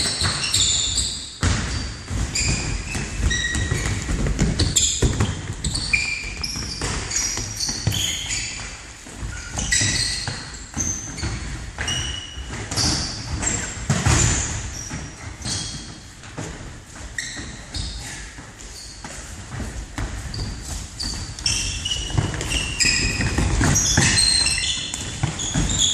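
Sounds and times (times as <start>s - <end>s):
shoes squeaking on hall floor: 0.0s - 25.9s.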